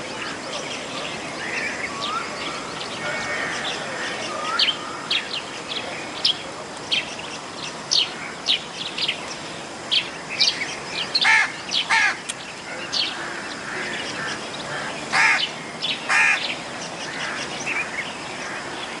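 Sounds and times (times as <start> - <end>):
birds chirping: 0.0 - 19.0
harsh bird calls: 0.0 - 19.0
steady hiss: 0.0 - 19.0.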